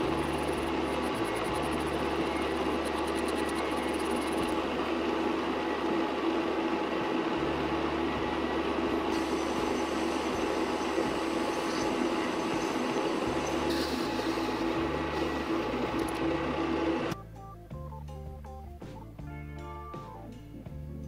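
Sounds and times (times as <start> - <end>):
workshop machine motor droning: 0.0 - 17.2.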